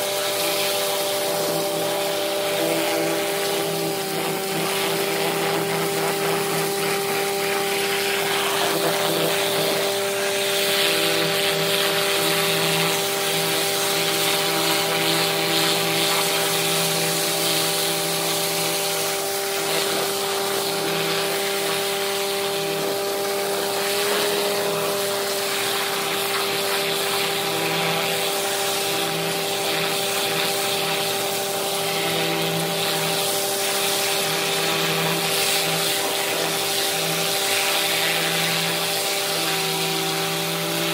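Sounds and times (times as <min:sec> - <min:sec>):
pressure washer hum: 0:00.0 - 0:40.9
water jet spray hiss: 0:00.0 - 0:40.9.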